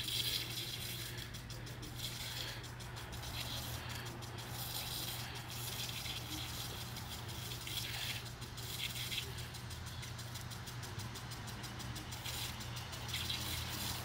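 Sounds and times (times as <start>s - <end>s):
sprinkler spraying water: 0.0s - 14.0s.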